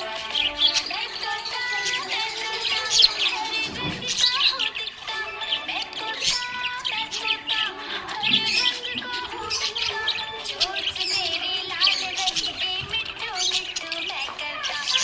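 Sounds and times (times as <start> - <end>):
budgerigar chattering and warbling: 0.0 - 15.0.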